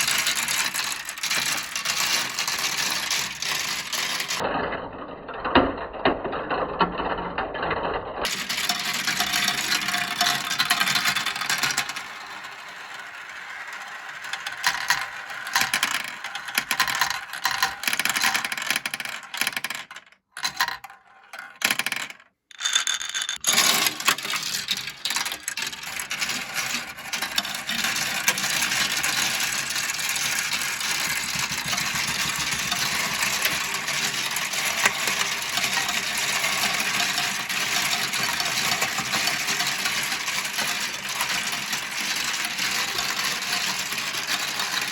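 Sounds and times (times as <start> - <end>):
marbles rattling down track: 0.0 - 4.5, 5.5 - 44.9.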